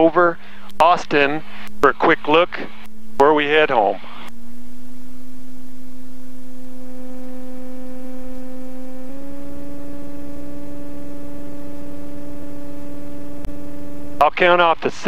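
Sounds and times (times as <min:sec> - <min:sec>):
airplane engine and propeller droning: 0:00.0 - 0:15.0.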